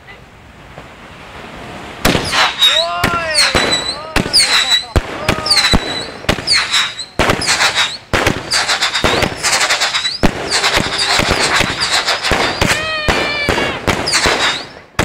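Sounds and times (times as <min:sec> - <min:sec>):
fireworks bangs and crackling: 0:02.0 - 0:15.0
whistling rockets: 0:02.0 - 0:15.0.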